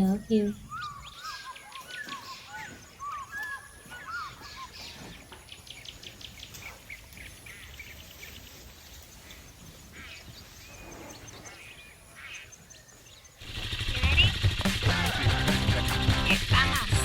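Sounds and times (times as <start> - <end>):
birds whistling: 0.0 - 17.0.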